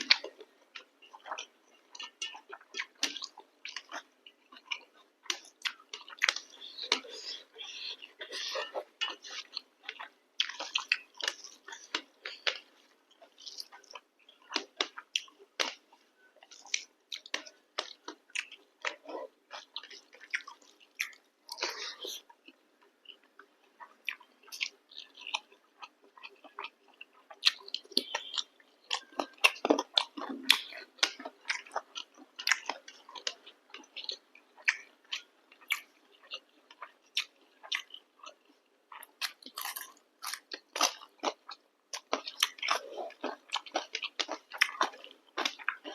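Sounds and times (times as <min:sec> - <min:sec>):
chewing and mouth smacks: 0:00.0 - 0:45.9.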